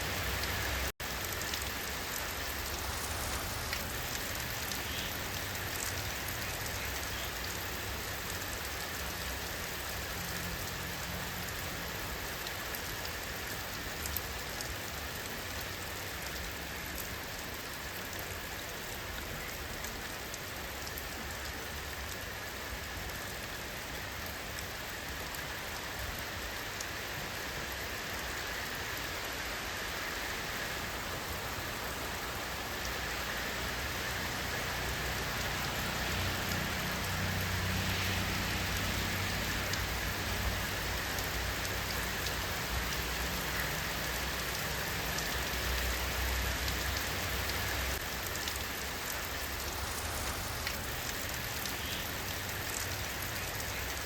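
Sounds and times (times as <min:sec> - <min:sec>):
rain hiss with drop taps: 0:00.0 - 0:54.0.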